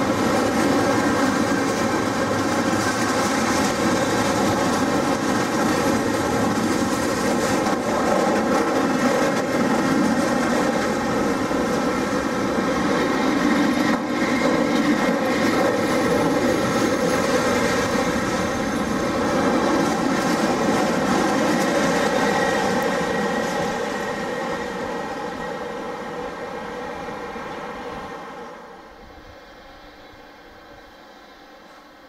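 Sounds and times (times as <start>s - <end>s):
freight train rolling past: 0.0s - 32.0s.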